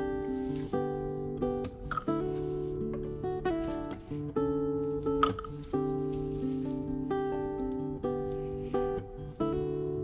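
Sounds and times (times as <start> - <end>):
strummed acoustic guitar chords: 0.0 - 10.0.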